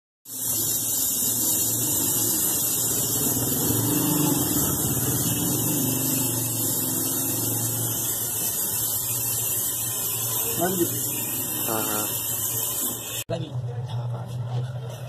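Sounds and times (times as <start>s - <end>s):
torch flame hissing: 0.3s - 13.2s.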